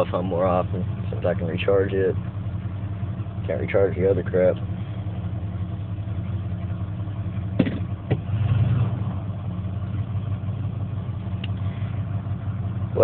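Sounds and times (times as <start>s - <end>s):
rattly engine idling: 0.0s - 13.0s.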